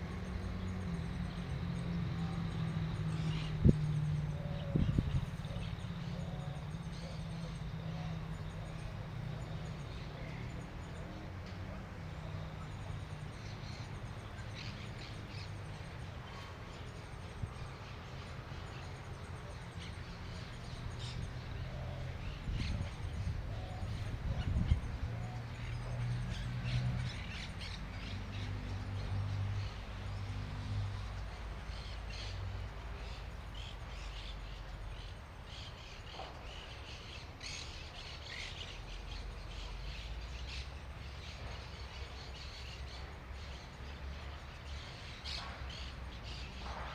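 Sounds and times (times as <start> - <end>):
birds calling: 0.0 - 46.9.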